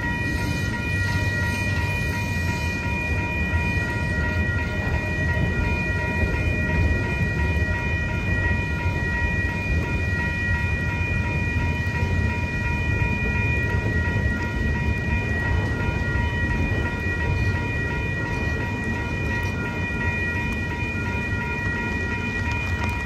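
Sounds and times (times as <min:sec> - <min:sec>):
crossing warning bell ringing: 0:00.0 - 0:23.0
freight cars rumbling on rails: 0:00.0 - 0:23.0.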